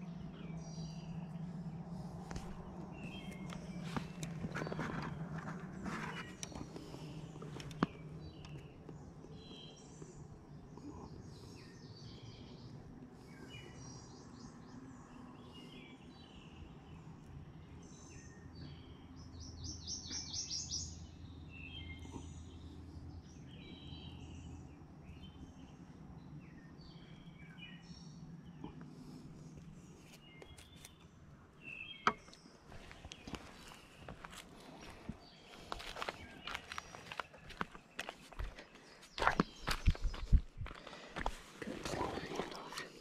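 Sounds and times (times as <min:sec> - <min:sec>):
wild birds chirping and singing: 0:00.0 - 0:43.0.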